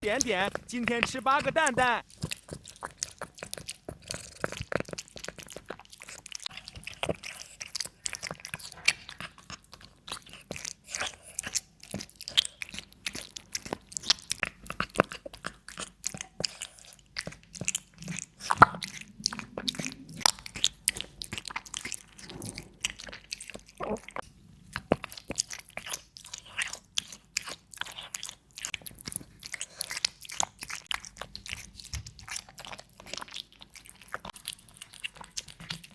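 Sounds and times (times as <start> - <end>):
cat chewing crunchy food: 0.0 - 35.9.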